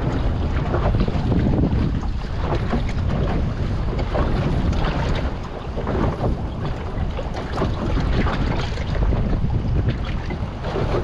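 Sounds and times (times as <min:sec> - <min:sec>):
choppy sea and breaking swell: 0:00.0 - 0:11.0
gusty wind buffeting microphone: 0:00.0 - 0:11.0.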